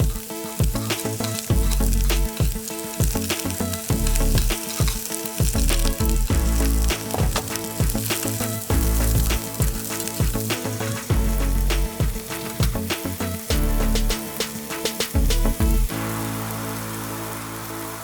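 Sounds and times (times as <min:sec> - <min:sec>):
background music with bass pulse: 0:00.0 - 0:18.0
food sizzling in a pan: 0:00.0 - 0:18.0.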